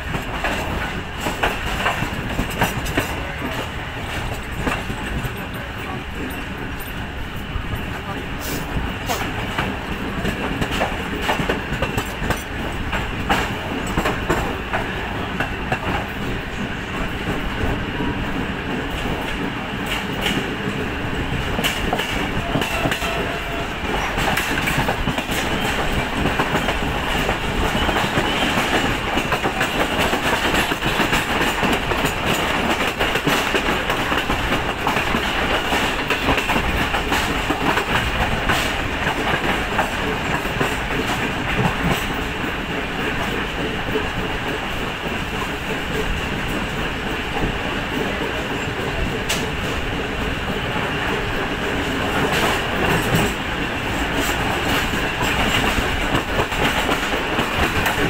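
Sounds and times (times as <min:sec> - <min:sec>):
train rolling rumble: 0:00.0 - 0:58.0.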